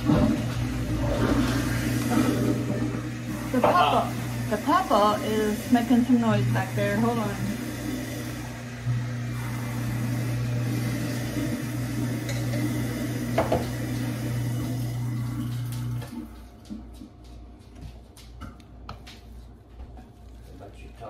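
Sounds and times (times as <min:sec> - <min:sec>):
household appliance humming: 0:00.0 - 0:17.2.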